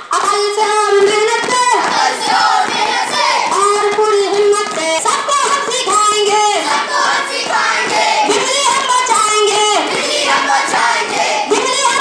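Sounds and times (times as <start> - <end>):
group of young voices singing: 1.0 - 12.0.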